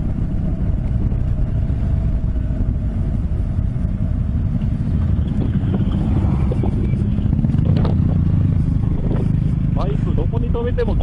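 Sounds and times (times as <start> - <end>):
faint motorcycle engine hum: 0.0 - 11.0
wind and road rush: 0.0 - 11.0.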